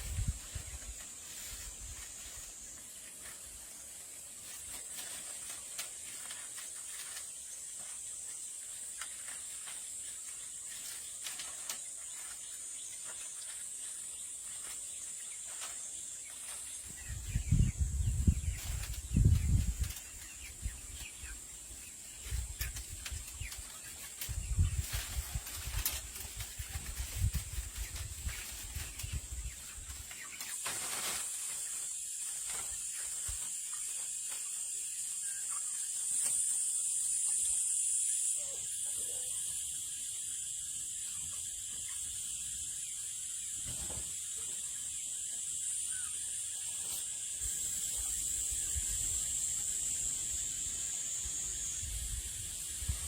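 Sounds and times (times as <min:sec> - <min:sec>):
high-pitched hiss: 0:00.0 - 0:53.0.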